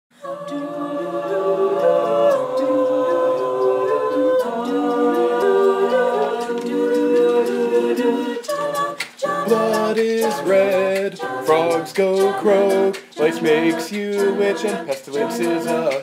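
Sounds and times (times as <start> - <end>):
a cappella group singing chords: 0.1 - 16.0.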